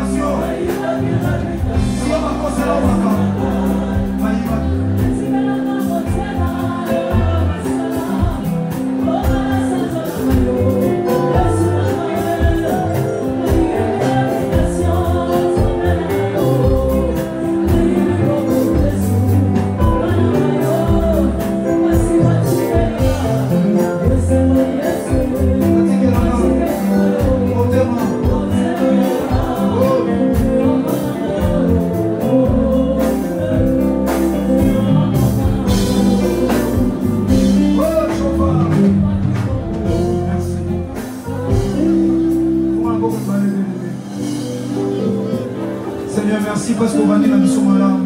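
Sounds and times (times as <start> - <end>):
woman singing lead: 0.0 - 42.9
backing singers: 0.0 - 48.0
band with bass and drums: 0.0 - 48.0.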